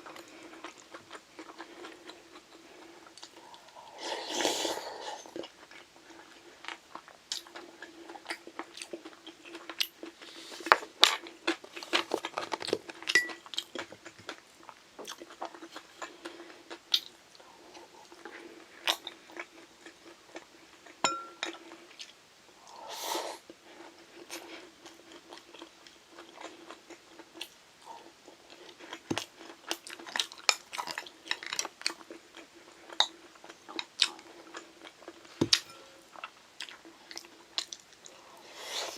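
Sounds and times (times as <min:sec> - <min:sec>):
chewing and crunching food: 0:00.0 - 0:22.2, 0:23.4 - 0:38.9
faint steady hum: 0:00.0 - 0:38.9.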